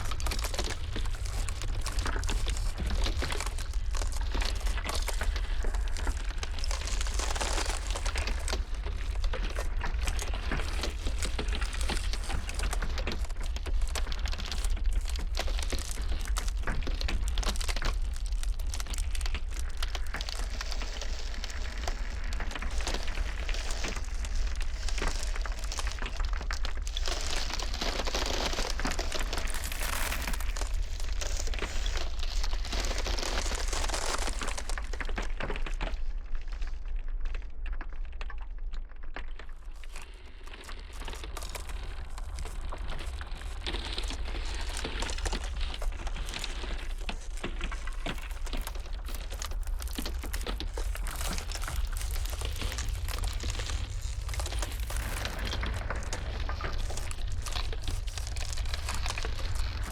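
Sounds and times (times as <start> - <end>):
blizzard wind rumble: 0.0 - 36.9, 39.6 - 59.9
ice cracking: 0.0 - 59.9.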